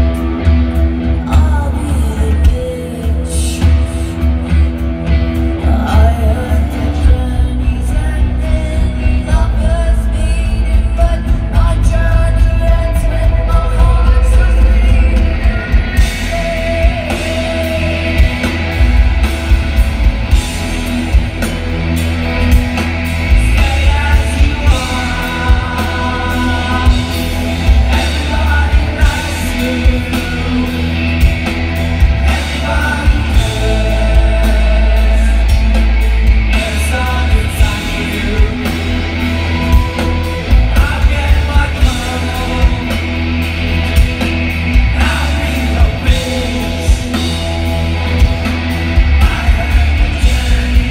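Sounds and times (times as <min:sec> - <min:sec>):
person singing: 0:00.0 - 0:44.1, 0:44.7 - 0:50.9
bass guitar: 0:00.0 - 0:50.9
distorted electric guitars: 0:00.0 - 0:50.9
drums: 0:00.0 - 0:50.9.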